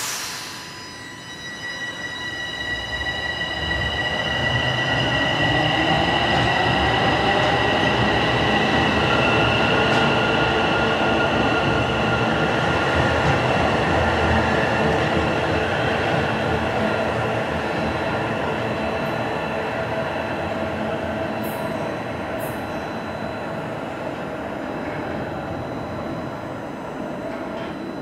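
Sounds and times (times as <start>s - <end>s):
subway train rumbling and whining: 0.0s - 28.0s.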